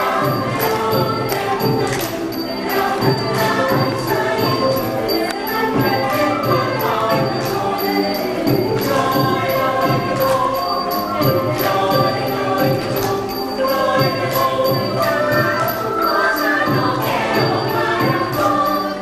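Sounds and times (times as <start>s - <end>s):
choir singing with accompaniment: 0.0s - 19.0s
light percussion beat: 0.0s - 19.0s.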